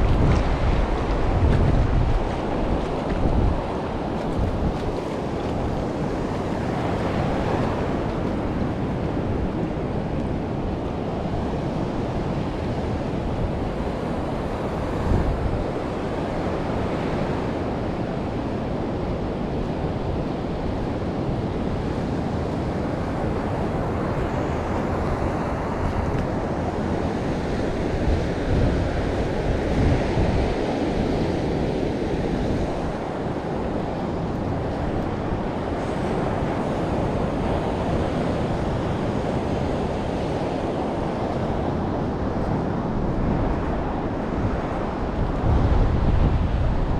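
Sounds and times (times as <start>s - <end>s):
rumbling gusts: 0.0s - 16.9s, 22.4s - 46.9s.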